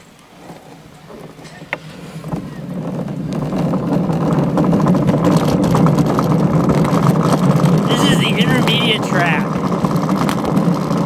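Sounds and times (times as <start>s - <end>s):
sled wheels rolling on concrete: 0.3s - 7.9s, 9.5s - 11.0s.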